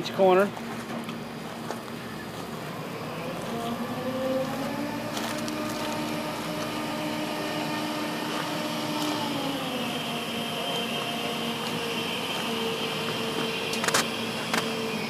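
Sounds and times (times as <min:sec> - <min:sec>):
crane engine revving: 0:01.1 - 0:15.0.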